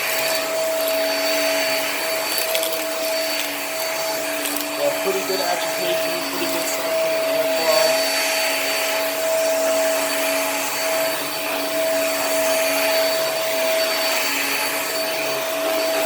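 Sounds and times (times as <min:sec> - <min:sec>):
vacuum cleaner running on carpet: 0:00.0 - 0:16.0.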